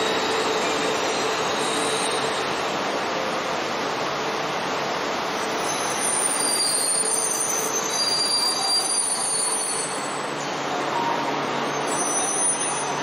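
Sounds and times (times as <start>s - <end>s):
train rushing noise: 0.0s - 13.0s.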